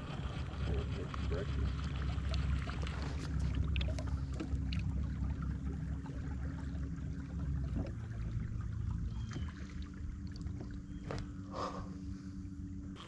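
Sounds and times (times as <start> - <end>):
faint even hum: 0.0 - 13.0
river water lapping around boat: 0.0 - 13.0.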